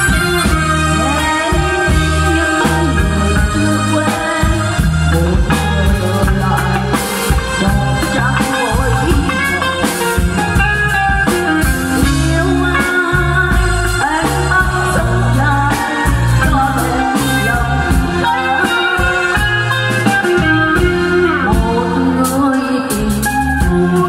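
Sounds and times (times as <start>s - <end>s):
drum kit: 0.0s - 24.0s
electric guitar: 0.0s - 24.0s
woman singing into microphone: 0.0s - 24.0s.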